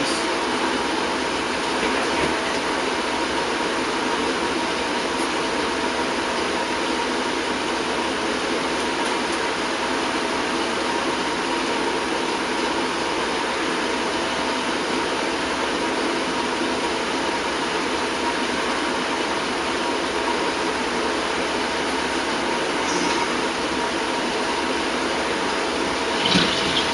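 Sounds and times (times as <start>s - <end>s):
machine-like background noise: 0.0s - 26.9s.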